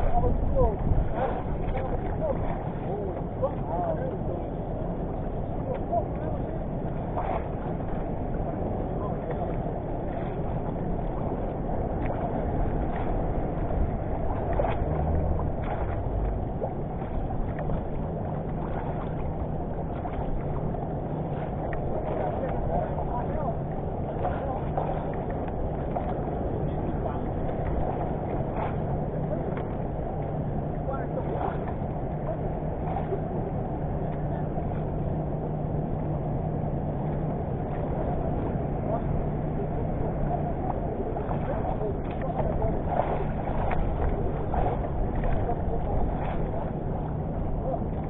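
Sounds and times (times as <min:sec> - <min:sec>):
faint low hum: 0:00.0 - 0:48.0
water lapping around boat: 0:00.0 - 0:48.0.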